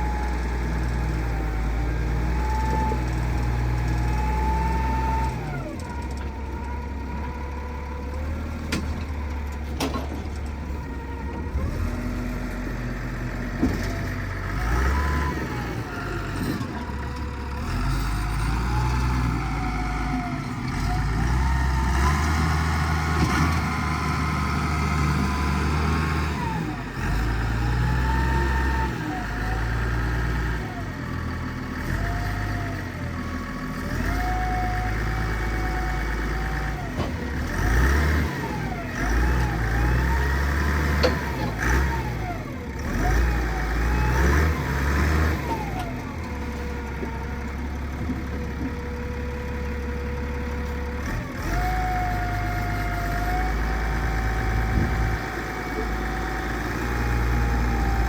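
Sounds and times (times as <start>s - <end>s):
wheel loader engine revving: 0.0s - 58.0s.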